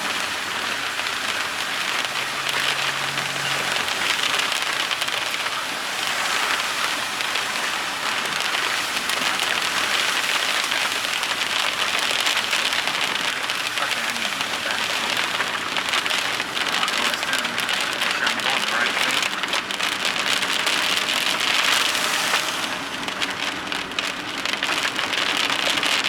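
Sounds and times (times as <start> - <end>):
heavy rain on a vehicle: 0.0 - 26.0.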